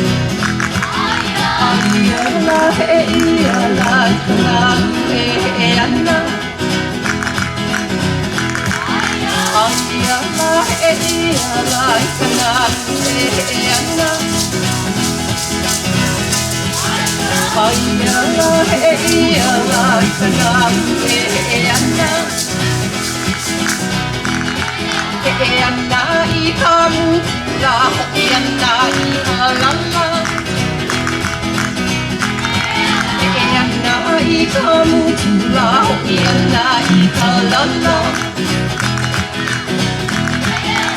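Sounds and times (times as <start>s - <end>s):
plucked string instrument: 0.0s - 40.9s
fast rattling shaker: 0.3s - 4.2s, 7.0s - 34.8s, 36.2s - 40.9s.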